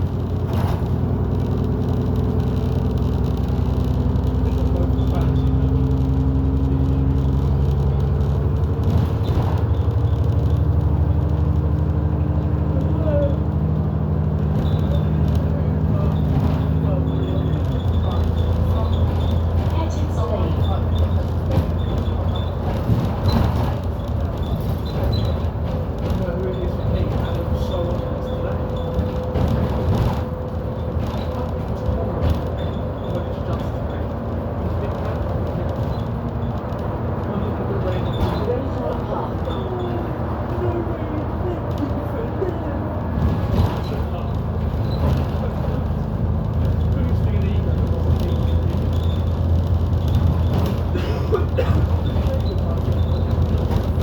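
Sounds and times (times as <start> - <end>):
bus engine hum: 0.0 - 54.0
rattles and bumps: 0.0 - 54.0
road noise: 0.0 - 54.0.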